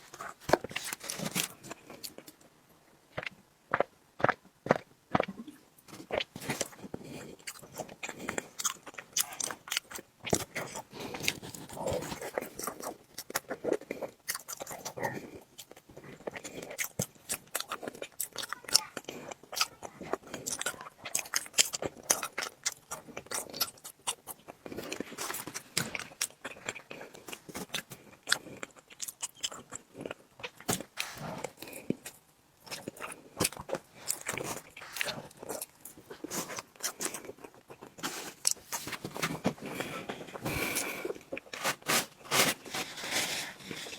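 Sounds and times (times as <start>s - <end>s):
chewing and mouth sounds: 3.2s - 41.6s.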